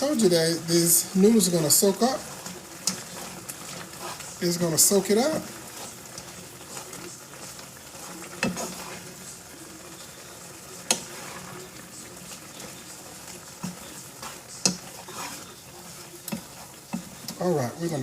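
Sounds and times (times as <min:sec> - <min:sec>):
soft sizzle: 0:00.0 - 0:18.0
spoon stirring noodles in pot: 0:01.0 - 0:17.8.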